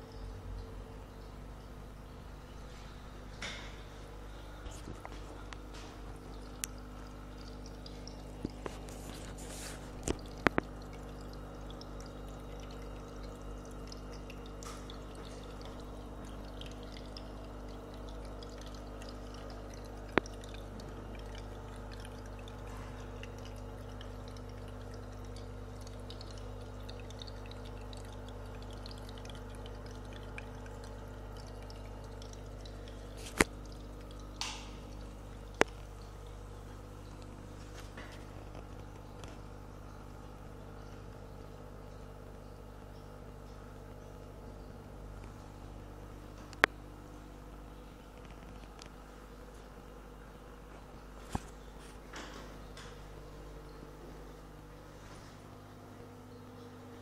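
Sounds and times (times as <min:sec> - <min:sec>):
filter low hum: 0:00.0 - 0:57.0
water trickling and splashing: 0:00.0 - 0:57.0.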